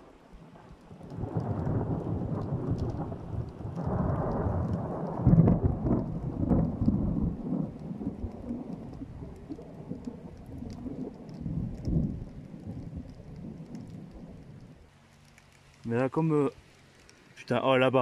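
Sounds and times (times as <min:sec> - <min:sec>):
thunder rumbling: 0:00.0 - 0:14.9
rain falling: 0:00.0 - 0:18.0.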